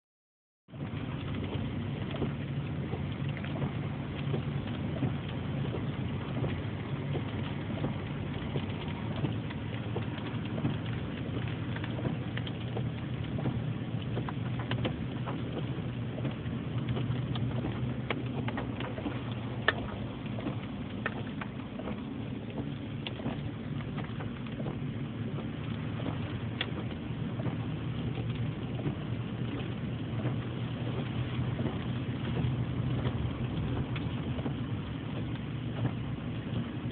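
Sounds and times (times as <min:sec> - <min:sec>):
hail and rain falling: 0:00.7 - 0:36.9
hailstones ticking: 0:00.7 - 0:36.9.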